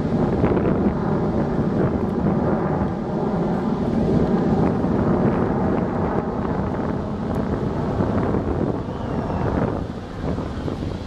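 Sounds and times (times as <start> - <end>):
jets rumbling overhead: 0.0 - 11.0.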